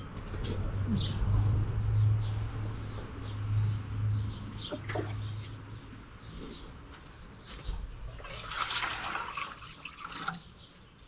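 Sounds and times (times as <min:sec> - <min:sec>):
small birds chirping: 0:00.8 - 0:11.0.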